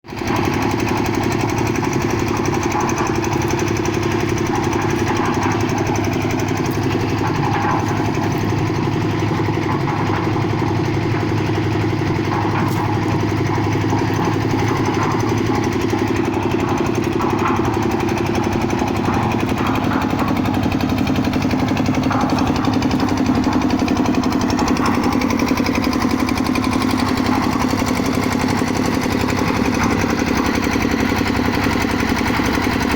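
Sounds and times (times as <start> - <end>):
concrete mixer running: 0.0 - 32.9.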